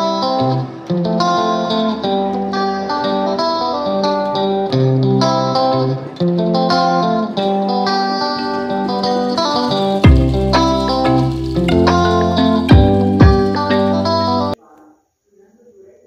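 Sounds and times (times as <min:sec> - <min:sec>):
plucked guitar tune: 0:00.0 - 0:14.6.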